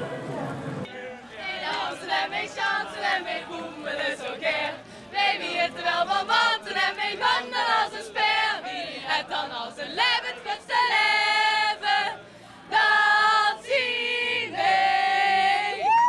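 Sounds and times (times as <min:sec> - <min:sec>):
women singing unaccompanied: 0:01.3 - 0:16.0.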